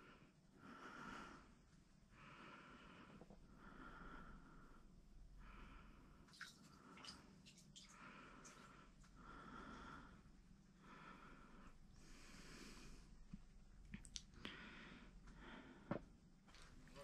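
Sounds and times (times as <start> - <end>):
slow soft breathing: 0.0 - 13.6, 14.3 - 17.0.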